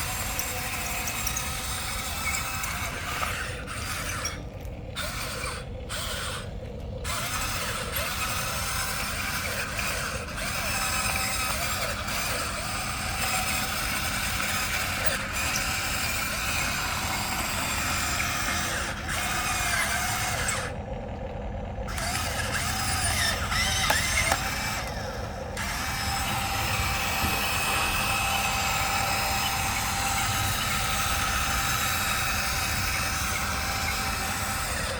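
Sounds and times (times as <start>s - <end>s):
toy excavator electric motors whining: 0.0s - 34.9s.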